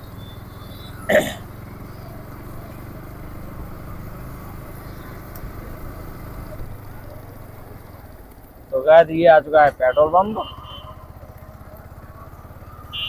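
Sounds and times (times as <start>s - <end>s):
motorcycle engine rumble: 0.0s - 13.0s
road and wind noise: 0.0s - 13.0s.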